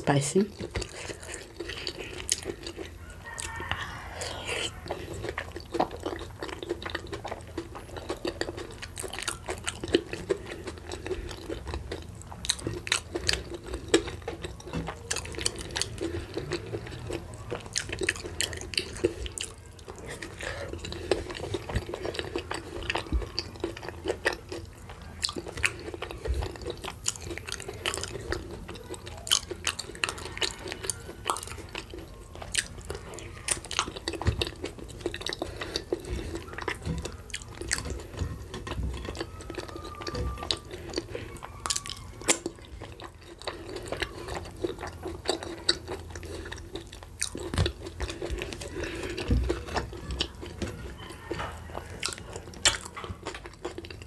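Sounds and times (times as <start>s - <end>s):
chewing and wet mouth sounds: 0.0s - 54.0s.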